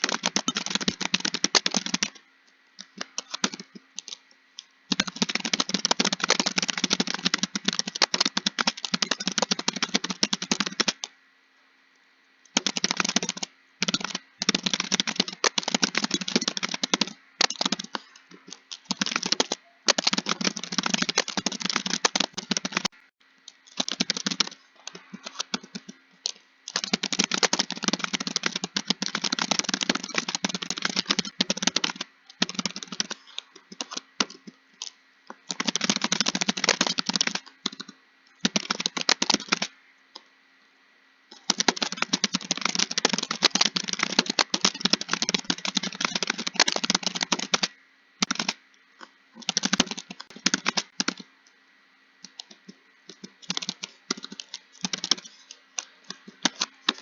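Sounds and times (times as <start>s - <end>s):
rapid keyboard typing: 0.0s - 2.2s, 2.8s - 11.2s, 12.5s - 39.8s, 41.3s - 51.3s, 52.2s - 57.0s.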